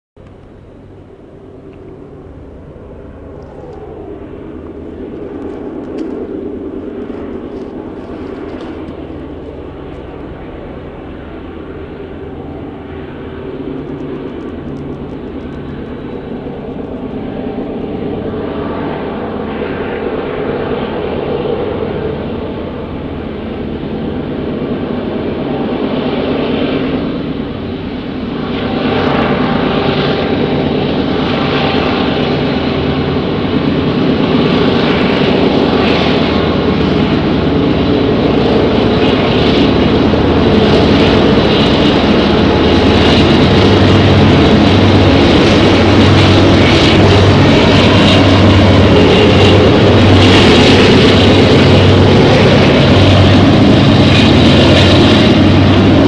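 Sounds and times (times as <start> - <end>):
diesel locomotives running hard: 0.2 - 56.0
rattling of passing locomotives: 0.2 - 56.0.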